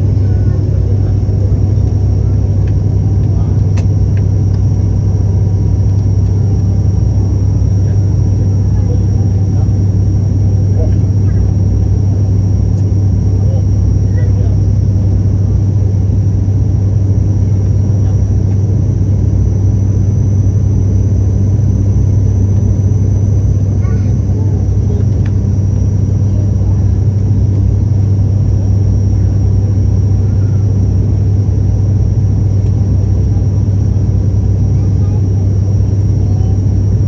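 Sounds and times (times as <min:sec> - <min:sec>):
propeller engine hum: 0:00.0 - 0:37.0.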